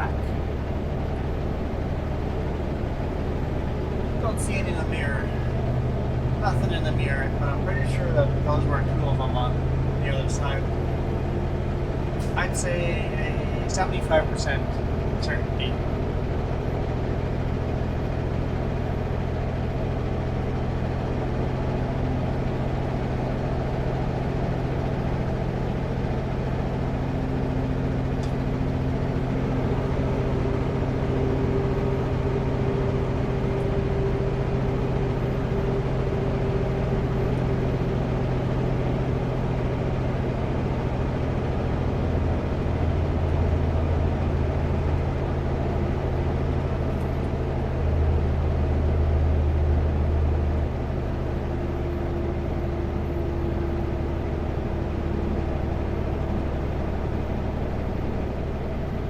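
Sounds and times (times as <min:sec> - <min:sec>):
faint higher hum: 0:00.0 - 0:59.0
truck diesel engine and road noise: 0:00.0 - 0:59.0.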